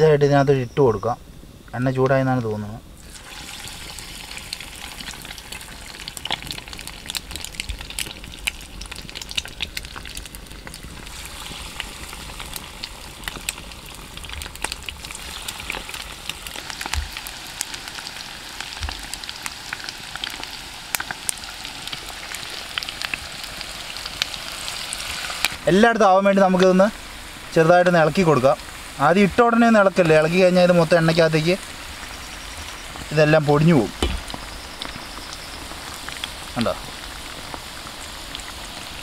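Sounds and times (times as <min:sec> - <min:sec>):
batter sizzling in hot oil: 0:02.9 - 0:39.0.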